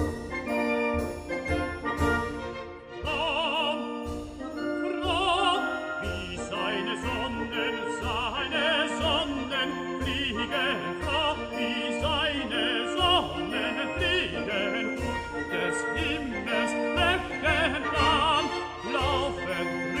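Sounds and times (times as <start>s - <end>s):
orchestral accompaniment: 0.0s - 20.0s
operatic voice singing: 3.0s - 4.2s, 4.9s - 20.0s.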